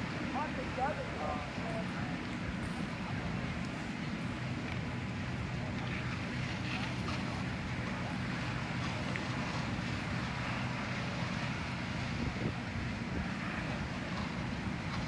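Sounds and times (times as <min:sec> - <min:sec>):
diesel engines humming: 0:00.0 - 0:15.0.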